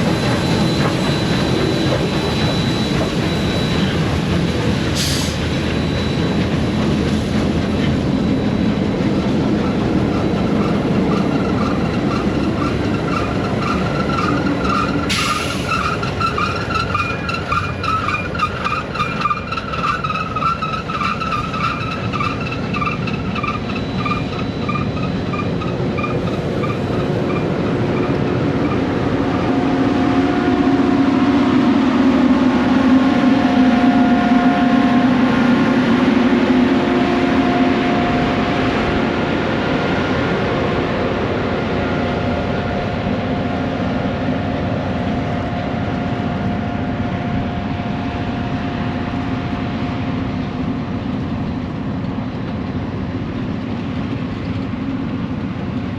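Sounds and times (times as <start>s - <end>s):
train car rumbling on rails: 0.0s - 55.9s.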